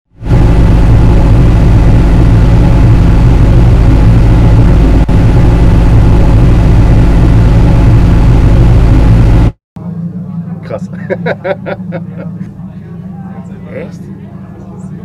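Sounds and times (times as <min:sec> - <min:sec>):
low engine drone in cabin: 0:00.2 - 0:15.0.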